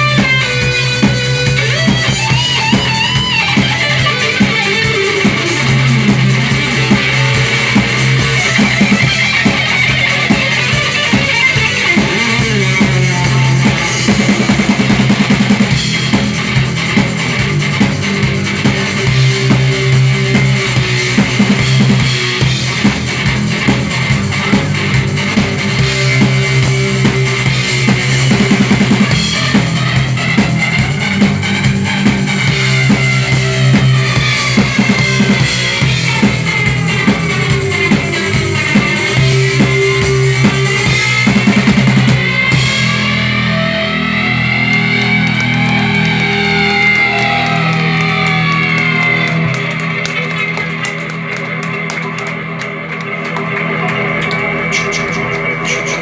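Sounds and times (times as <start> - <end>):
rock band instrumental: 0.0 - 56.0.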